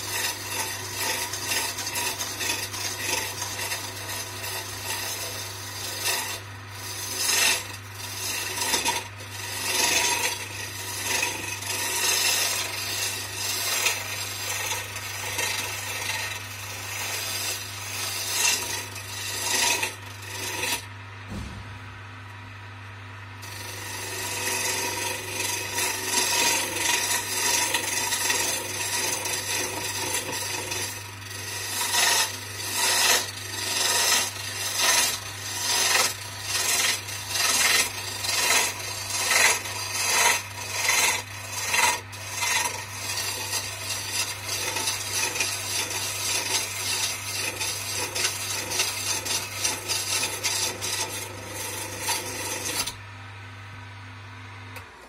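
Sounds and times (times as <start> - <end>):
gouge scraping spinning wood: 0.0 - 53.1
lathe motor hum: 0.0 - 55.0.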